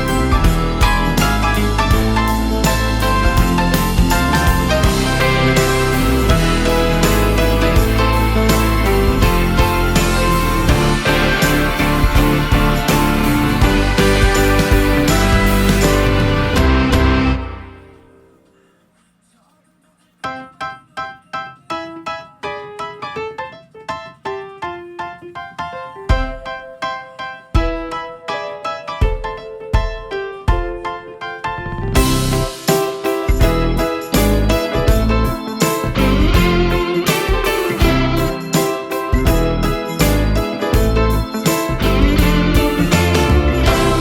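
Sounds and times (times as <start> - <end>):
piano music: 0.0 - 18.7, 20.2 - 44.0.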